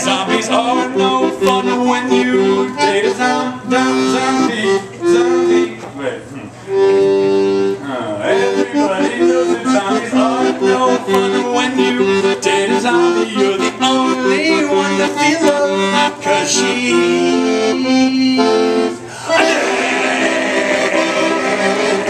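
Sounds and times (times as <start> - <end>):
accordion playing chords: 0.0 - 22.0.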